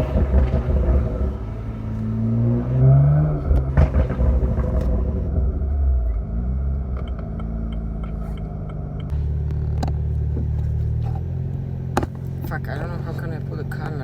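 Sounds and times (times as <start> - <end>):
car exhaust drone: 0.0 - 14.0.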